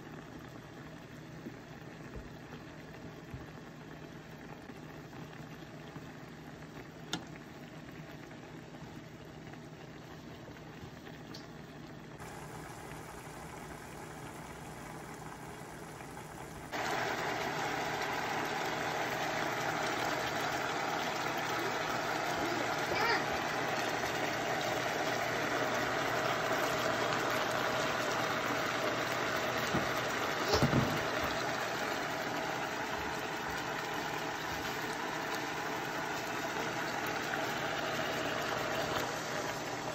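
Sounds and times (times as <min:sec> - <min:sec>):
sauce bubbling in a frying pan: 0:00.0 - 0:39.9.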